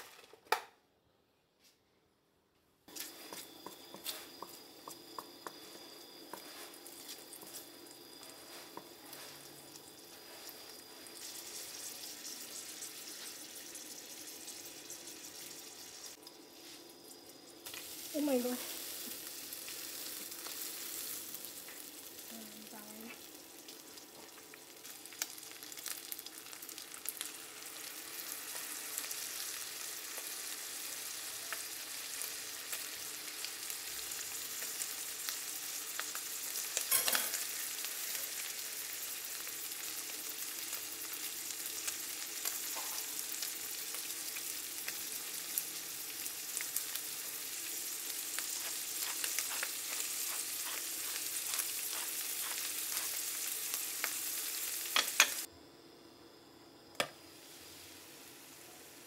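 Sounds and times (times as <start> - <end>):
food sizzling in a frying pan: 2.9 - 55.5, 57.0 - 59.0.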